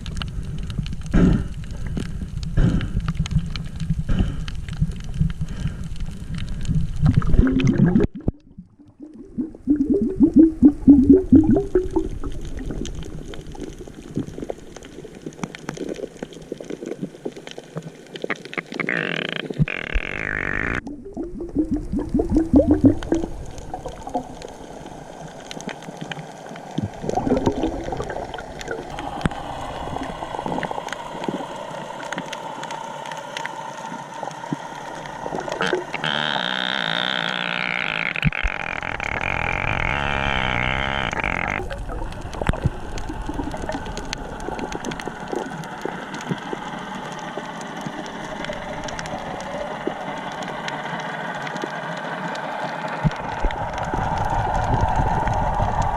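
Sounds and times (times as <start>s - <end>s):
underwater bubbly gurgles: 0.0s - 36.5s, 38.0s - 55.9s
small underwater clicks: 0.0s - 55.9s.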